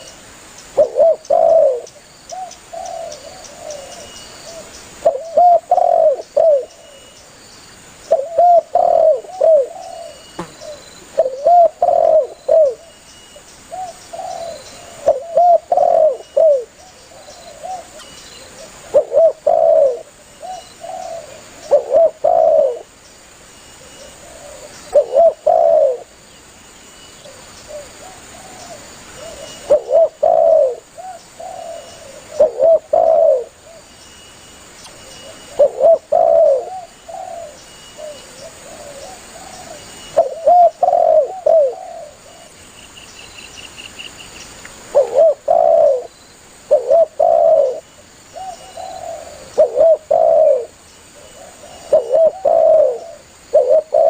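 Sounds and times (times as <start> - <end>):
dove cooing: 0.8 - 7.0, 8.1 - 12.9, 13.7 - 22.9, 23.8 - 26.1, 27.2 - 33.9, 35.0 - 42.5, 44.9 - 54.0.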